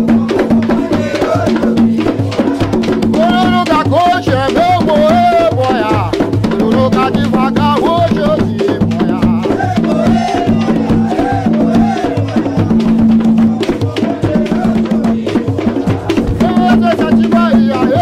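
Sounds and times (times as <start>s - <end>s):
hand drums beating: 0.0s - 18.0s
voices singing: 0.0s - 18.0s.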